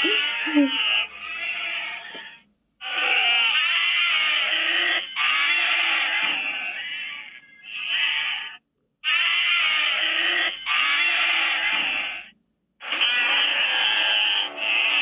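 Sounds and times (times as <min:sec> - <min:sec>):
harsh creature calls: 0:00.0 - 0:15.0.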